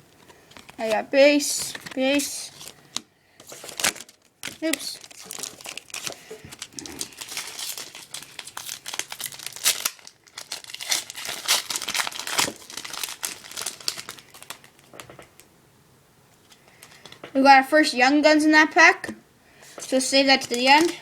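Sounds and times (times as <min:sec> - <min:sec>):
plastic wrapper crinkling: 0:00.1 - 0:15.5, 0:16.3 - 0:17.3, 0:19.6 - 0:21.0.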